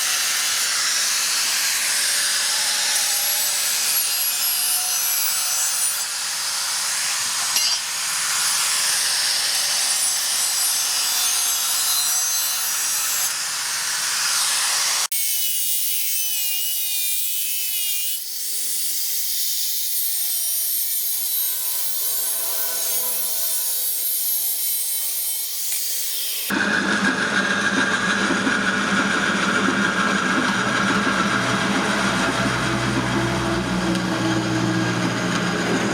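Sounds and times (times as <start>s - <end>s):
tool rasping steel: 0.0s - 35.9s.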